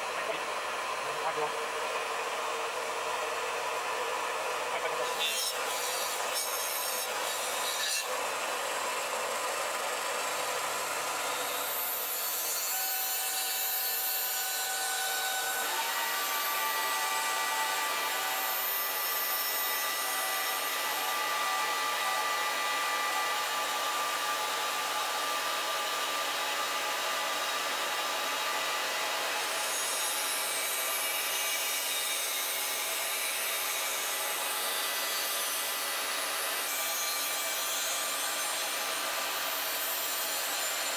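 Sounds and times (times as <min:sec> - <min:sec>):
milling cutter rasping: 0:04.8 - 0:40.9.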